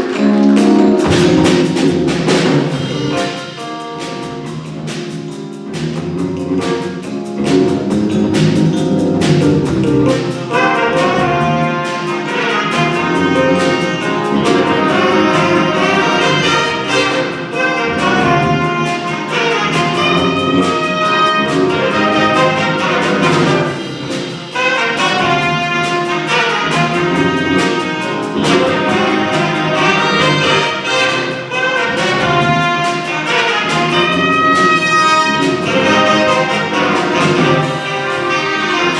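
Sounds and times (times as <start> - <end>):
drums: 0.0 - 38.9
jazz big band playing: 0.0 - 38.9
brass and saxophone section: 6.1 - 38.9.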